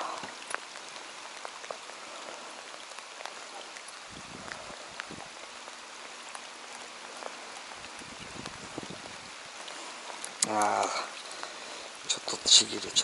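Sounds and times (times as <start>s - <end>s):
raindrop ticks: 0.0s - 13.0s
steady rain hiss: 0.0s - 13.0s.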